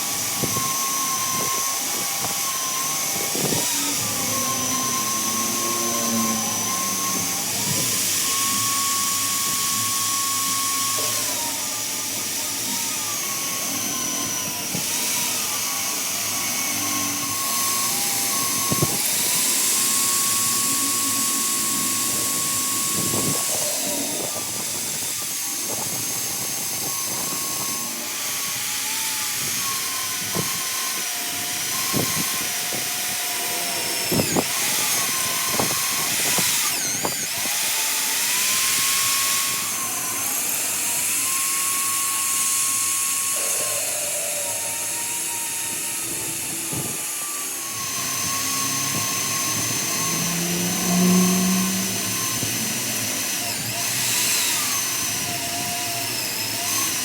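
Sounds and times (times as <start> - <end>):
power tool whining on metal: 0.0 - 57.0.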